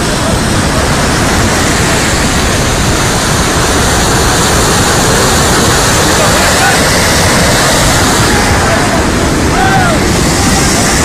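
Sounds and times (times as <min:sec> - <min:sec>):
roaring flood water: 0:00.0 - 0:11.0.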